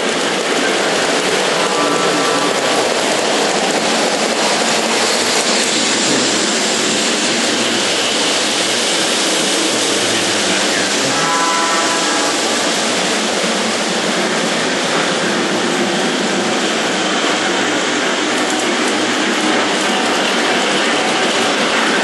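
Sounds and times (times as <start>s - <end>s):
model train rumbling on rails: 0.0s - 22.0s.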